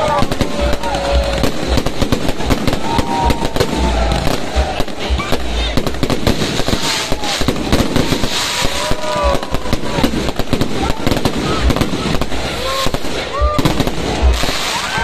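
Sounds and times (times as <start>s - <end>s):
fireworks crackling bangs: 0.0s - 15.0s
fireworks deep booms: 0.0s - 15.0s.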